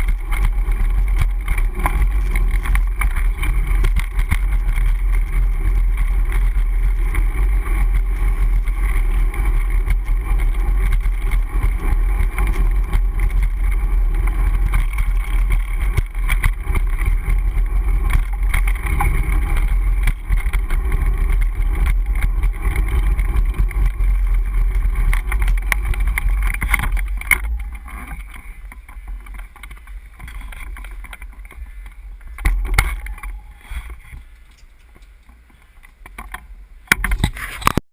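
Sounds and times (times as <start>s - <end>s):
wind rushing over microphone: 0.0s - 34.3s
bicycle road rumble: 0.0s - 37.8s.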